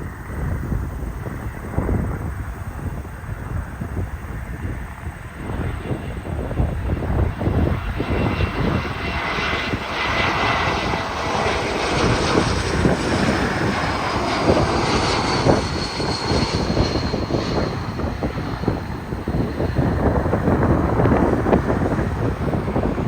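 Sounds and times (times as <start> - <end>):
jet passing: 0.0 - 23.0.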